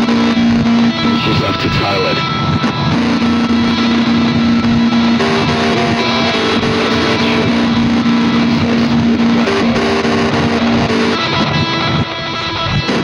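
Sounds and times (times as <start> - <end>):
rock music with guitar: 0.0 - 13.0
long held notes: 0.4 - 13.0.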